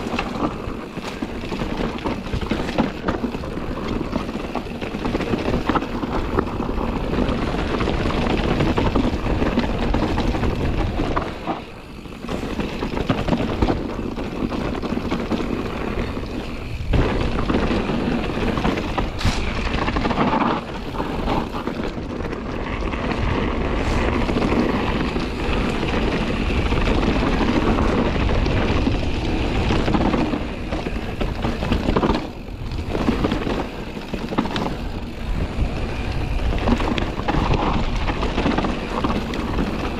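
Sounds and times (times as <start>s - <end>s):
bike rattling: 0.0s - 39.9s
tyre rumble on dirt trail: 0.0s - 39.9s
wind buffeting microphone: 0.0s - 39.9s.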